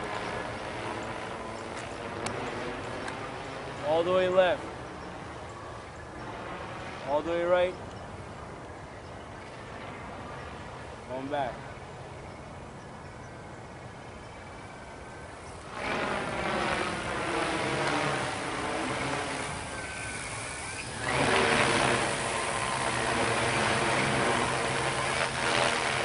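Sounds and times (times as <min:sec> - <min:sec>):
drone propellers buzzing: 0:00.0 - 0:12.8, 0:14.4 - 0:26.0.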